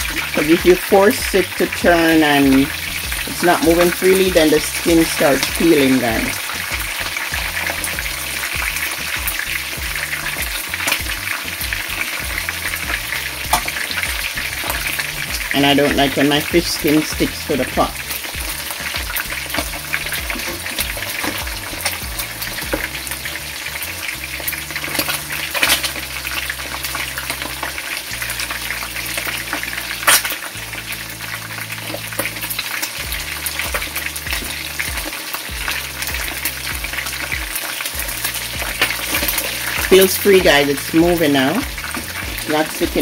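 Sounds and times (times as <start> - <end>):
fish sizzling in hot oil: 0.0 - 43.0.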